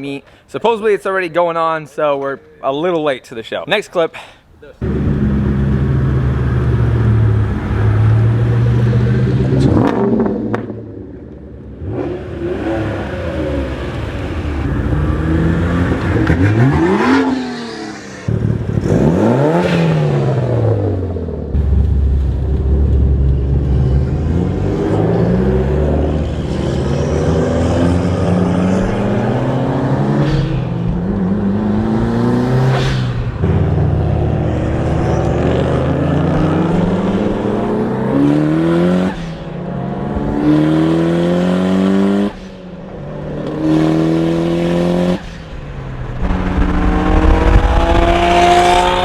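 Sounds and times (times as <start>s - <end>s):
car engine accelerating hard: 4.8s - 49.0s.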